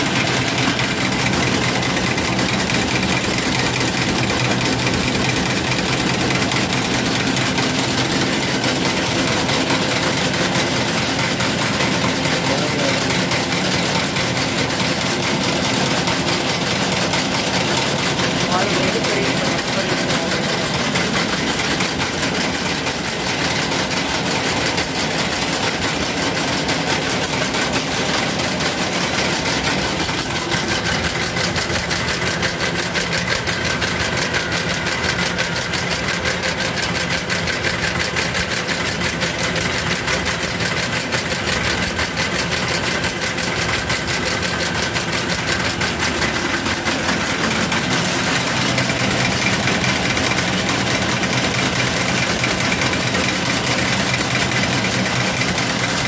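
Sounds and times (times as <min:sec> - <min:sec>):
wire coiling machine clatter: 0:00.0 - 0:56.0.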